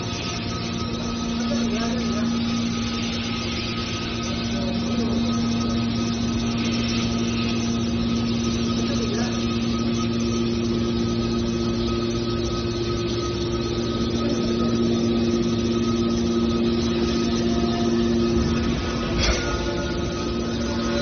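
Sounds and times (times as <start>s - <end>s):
hydraulic baler humming: 0.0s - 21.0s.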